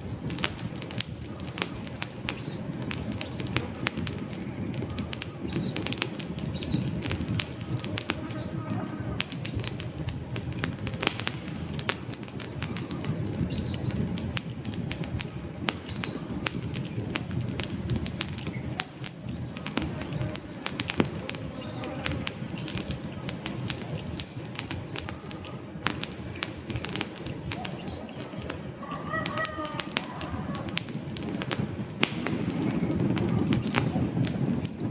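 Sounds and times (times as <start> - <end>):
campfire flames rushing: 0.0 - 34.9
logs crackling and popping: 0.0 - 34.9.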